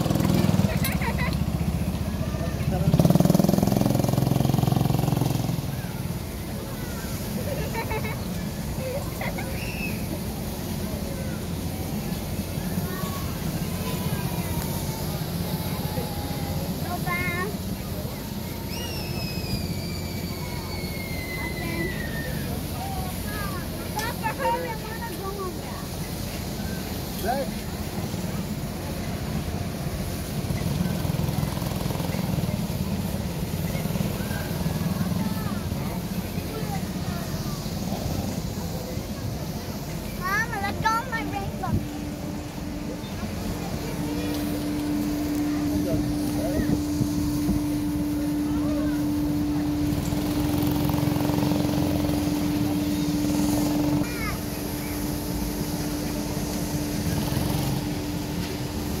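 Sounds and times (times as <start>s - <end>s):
go-kart engines buzzing: 0.0s - 59.0s.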